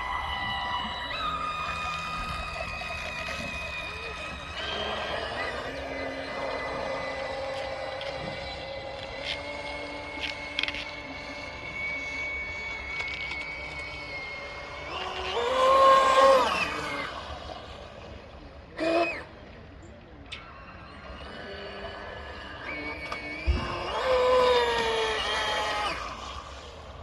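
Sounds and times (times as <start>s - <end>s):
electric motor whining: 0.0s - 27.0s.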